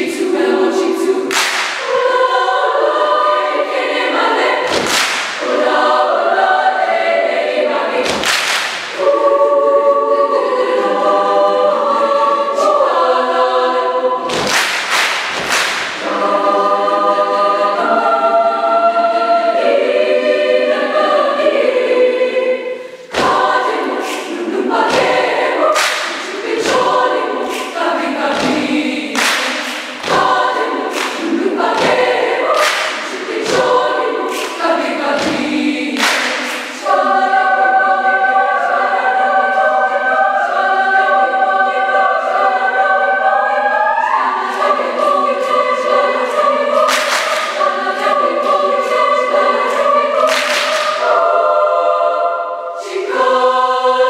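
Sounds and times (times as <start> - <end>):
girls' choir singing: 0.0 - 54.0.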